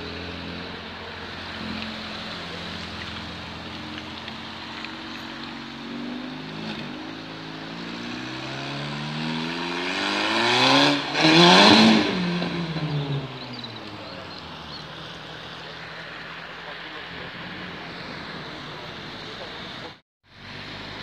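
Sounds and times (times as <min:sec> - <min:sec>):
car accelerating past: 0:00.0 - 0:21.0
car engines running: 0:00.0 - 0:21.0.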